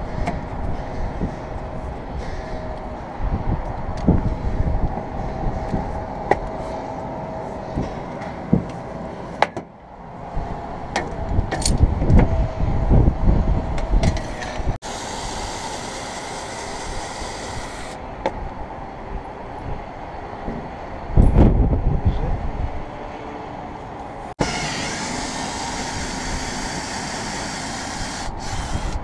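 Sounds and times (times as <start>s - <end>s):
wind buffeting microphone: 0.0s - 9.3s, 9.9s - 15.6s, 16.6s - 23.1s, 23.8s - 29.0s.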